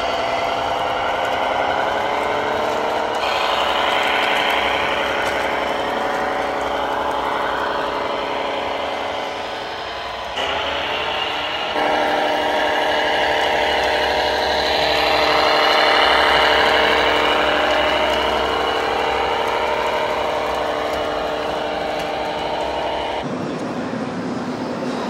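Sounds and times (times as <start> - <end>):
model tractor engine drone: 0.0 - 25.0.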